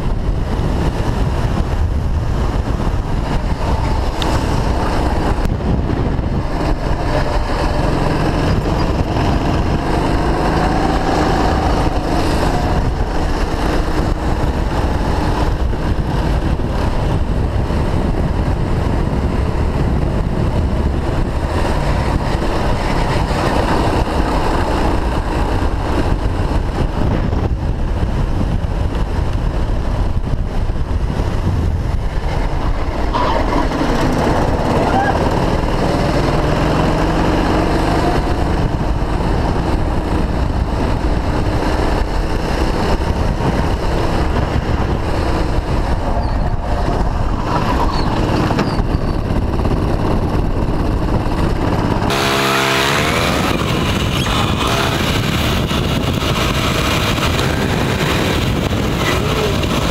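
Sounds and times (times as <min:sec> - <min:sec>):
go-kart engine running hard: 0:00.0 - 0:59.9
wind and road noise: 0:00.0 - 0:59.9.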